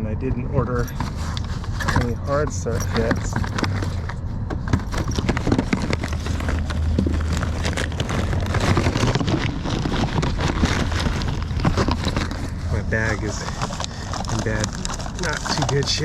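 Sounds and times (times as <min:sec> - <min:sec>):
steady low hum: 0:00.0 - 0:16.0
tools clattering in a bag: 0:00.7 - 0:16.0.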